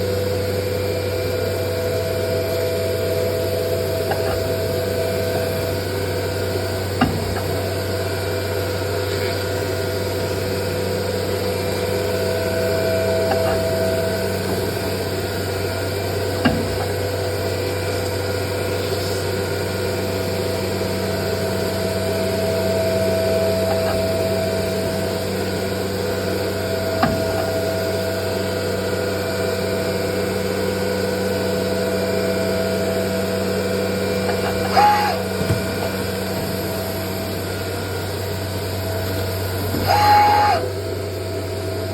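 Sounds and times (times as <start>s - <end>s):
cutting machine humming: 0.0s - 41.9s.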